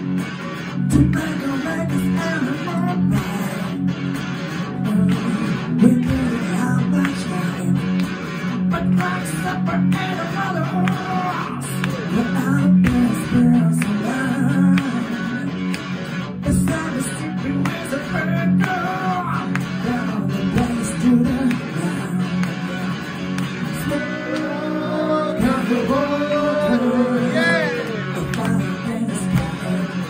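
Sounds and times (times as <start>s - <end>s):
electric guitar through amplifier: 0.0s - 30.0s
man singing: 0.8s - 3.8s, 4.7s - 7.9s, 8.6s - 15.5s, 16.4s - 22.5s, 23.7s - 30.0s.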